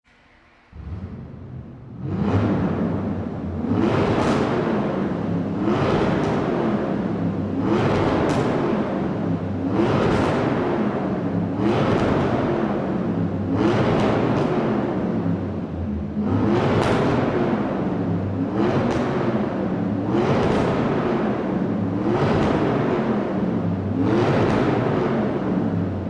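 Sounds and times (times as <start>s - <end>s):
engine revving: 0.1s - 26.0s.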